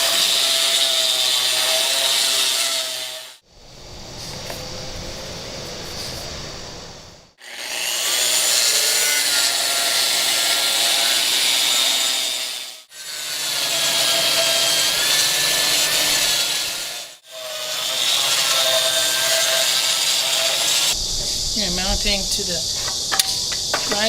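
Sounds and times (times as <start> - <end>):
grinder grinding concrete: 0.0 - 3.4, 7.4 - 24.0.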